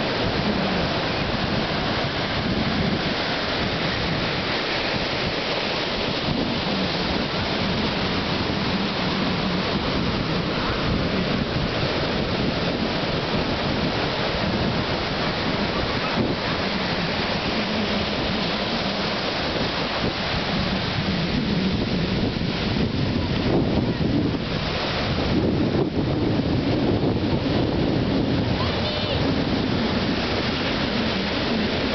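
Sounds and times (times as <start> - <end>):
ocean surf breaking on beach: 0.0 - 31.9
wind rumble on microphone: 0.0 - 31.9.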